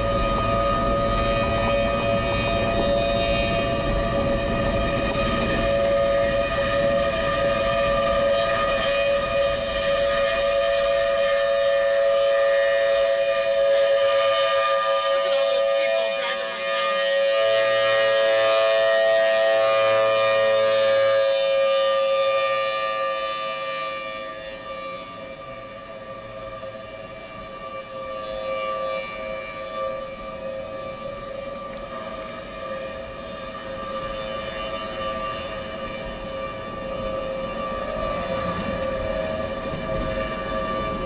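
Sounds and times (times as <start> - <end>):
warning siren wailing: 0.0 - 41.0.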